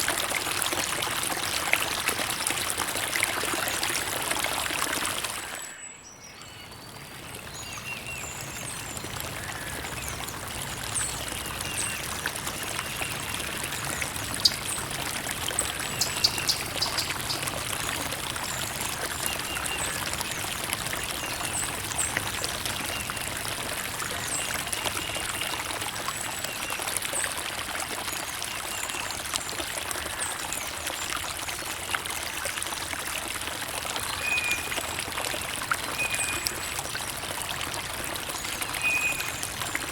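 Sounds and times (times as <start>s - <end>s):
creek water trickling: 0.0s - 39.9s.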